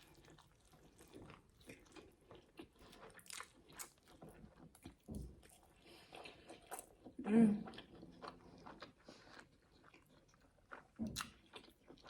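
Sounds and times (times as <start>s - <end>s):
chewing and crunching: 0.0s - 12.0s.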